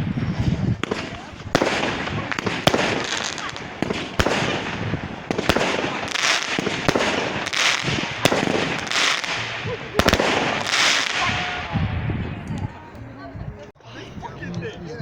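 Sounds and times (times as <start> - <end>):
fireworks bangs: 0.0 - 13.1
fireworks crackling: 0.0 - 13.3.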